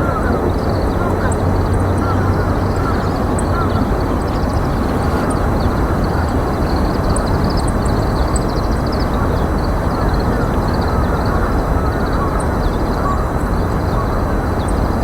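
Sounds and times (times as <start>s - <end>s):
low rumbling outdoor noise: 0.0s - 15.0s
small birds twittering: 0.0s - 15.0s.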